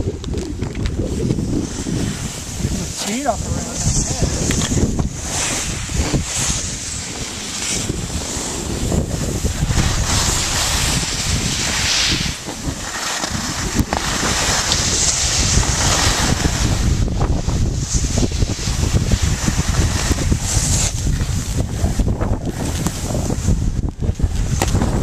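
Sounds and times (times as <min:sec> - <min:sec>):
wind buffeting microphone: 0:00.0 - 0:25.0
skis sliding on snow: 0:00.1 - 0:25.0.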